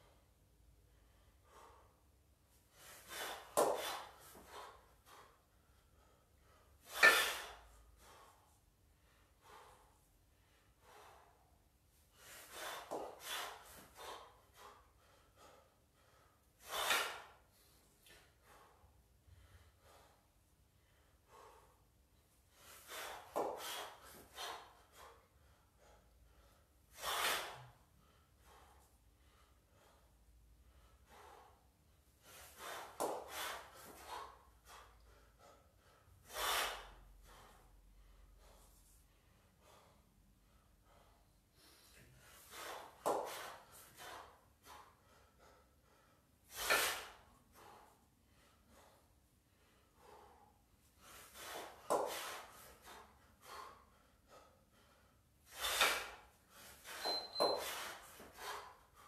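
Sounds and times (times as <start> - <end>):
forceful breathing: 0.0 - 59.0.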